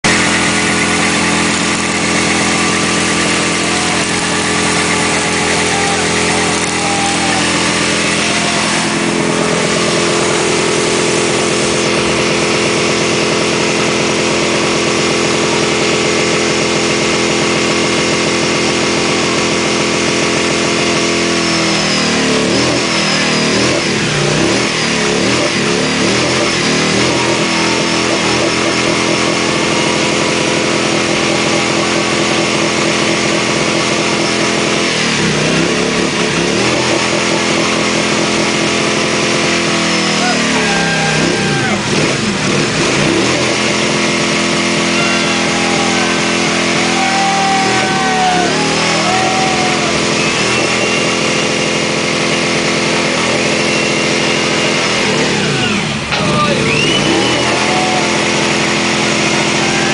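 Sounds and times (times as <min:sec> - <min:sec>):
motorcycle engine revving: 0:00.0 - 0:59.9
tire spinning: 0:00.0 - 0:59.9.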